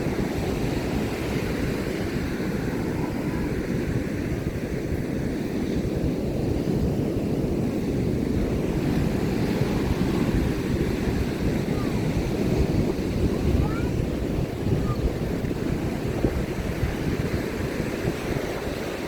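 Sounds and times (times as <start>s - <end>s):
surf washing on beach: 0.0s - 19.0s
wind rumble on microphone: 0.0s - 19.0s.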